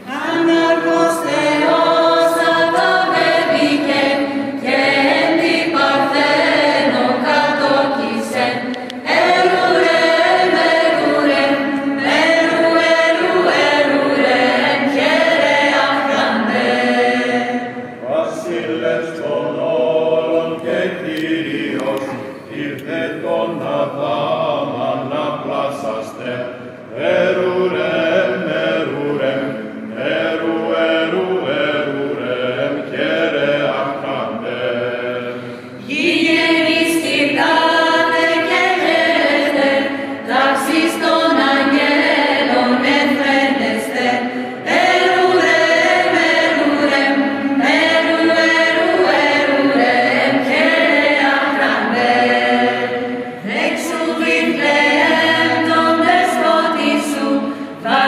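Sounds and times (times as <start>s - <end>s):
women's voices singing: 0.0s - 26.4s, 27.0s - 58.0s
men's voices singing: 0.0s - 58.0s.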